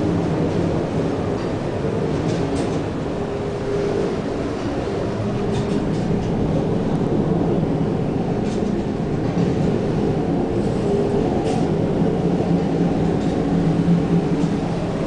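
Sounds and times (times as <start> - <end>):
hurricane wind rumble: 0.0 - 15.0
ship machinery running: 0.0 - 15.0.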